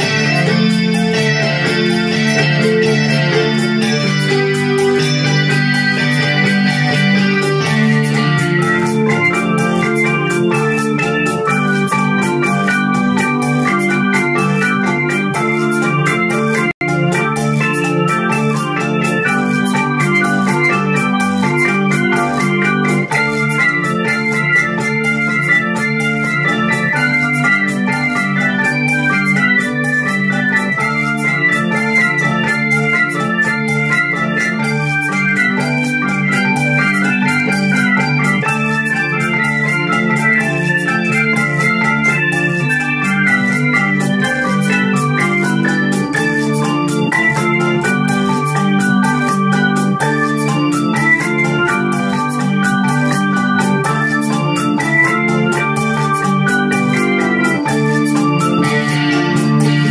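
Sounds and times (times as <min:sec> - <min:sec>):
electronic organ cha-cha-cha tune: 0:00.0 - 0:59.9
fast ticking beat: 0:00.0 - 0:59.9.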